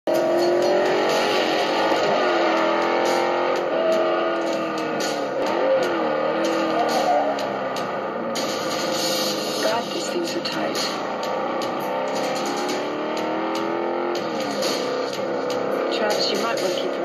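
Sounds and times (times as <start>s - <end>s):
sports car engine: 0.1s - 17.0s
electric guitar rock music: 0.2s - 17.0s.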